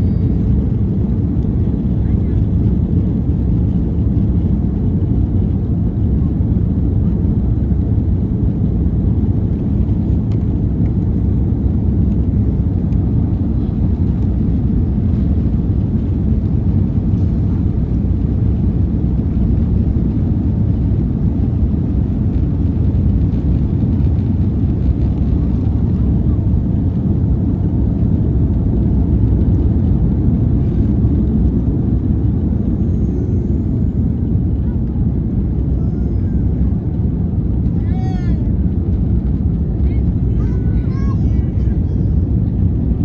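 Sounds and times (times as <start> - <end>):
airliner rumble: 0.0 - 43.0.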